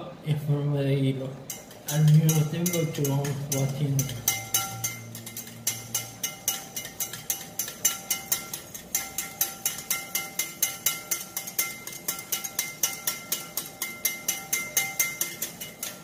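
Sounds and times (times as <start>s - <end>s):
wire whisk clicking against bowl: 1.5s - 16.0s.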